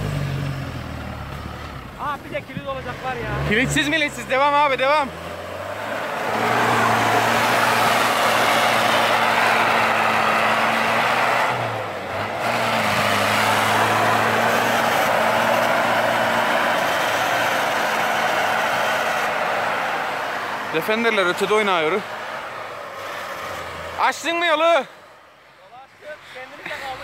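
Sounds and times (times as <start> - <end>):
diesel engine running hard: 0.0 - 24.2.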